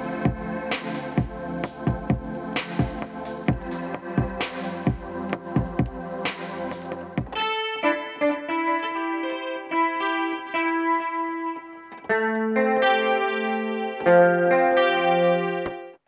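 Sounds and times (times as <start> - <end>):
electronic beat with drums and bass: 0.0 - 14.2
piano-like melody and chords: 0.0 - 16.0.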